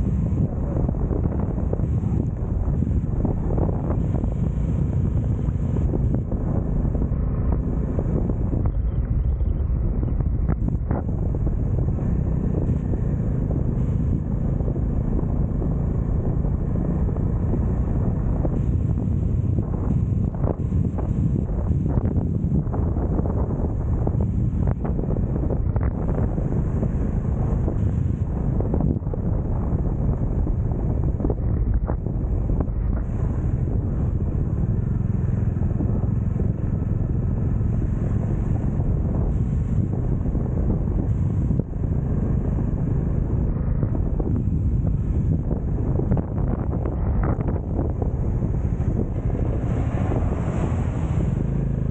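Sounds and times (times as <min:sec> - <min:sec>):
motorcycle engine: 0:00.0 - 0:51.9
road rumble: 0:00.0 - 0:51.9
wind buffeting microphone: 0:00.0 - 0:51.9.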